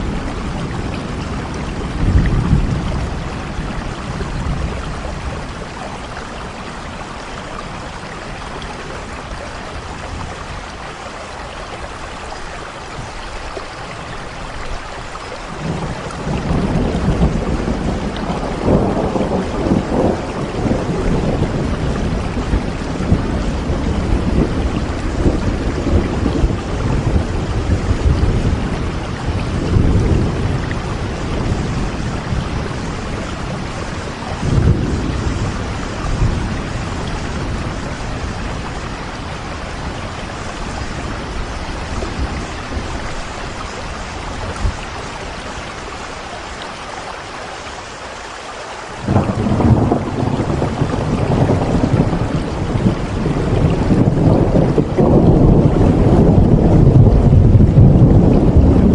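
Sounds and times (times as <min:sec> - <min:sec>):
thunder rumbling: 0:00.0 - 0:11.0, 0:15.5 - 0:46.3, 0:49.0 - 0:58.9
steady rain: 0:00.0 - 0:58.9.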